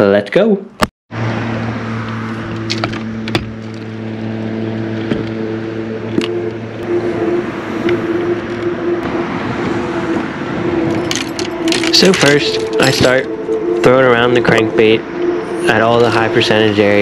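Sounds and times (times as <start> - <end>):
boat motor running: 1.4 - 16.8.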